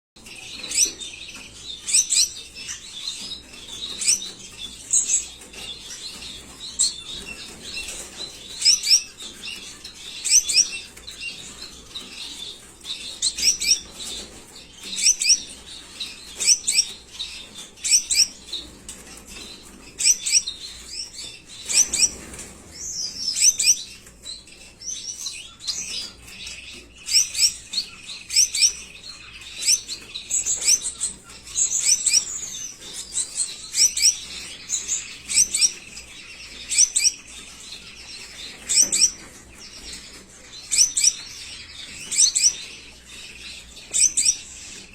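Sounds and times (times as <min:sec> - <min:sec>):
small parrots chirping: 0:00.2 - 0:44.9.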